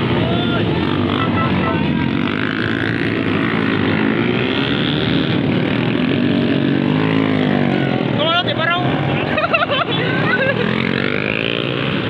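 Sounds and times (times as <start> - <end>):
motorcycles revving past: 0.0 - 12.0.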